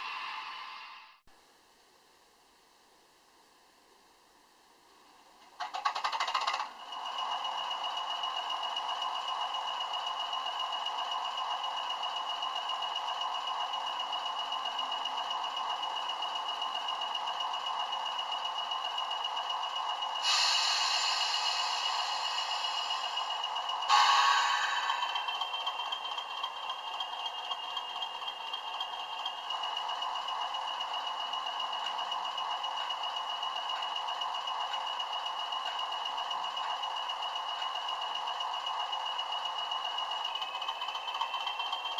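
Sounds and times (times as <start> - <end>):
steady high tone: 0.0 - 1.2, 7.3 - 41.9
model locomotive engine sound: 5.1 - 41.9
constant high whine: 6.6 - 41.9.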